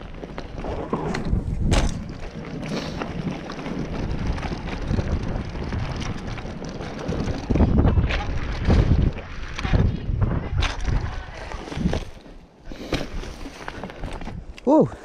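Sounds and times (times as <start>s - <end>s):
wind buffeting microphone: 0.0s - 12.3s
bike clicks and rattles: 0.0s - 14.7s
tyres rumbling on dirt and leaves: 0.0s - 15.0s.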